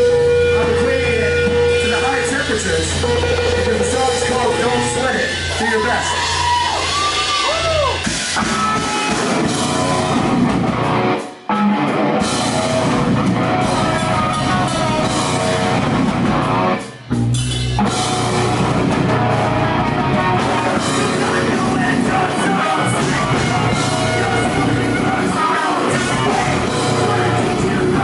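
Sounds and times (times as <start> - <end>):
drum kit: 0.0 - 28.0
electric guitar: 0.0 - 28.0.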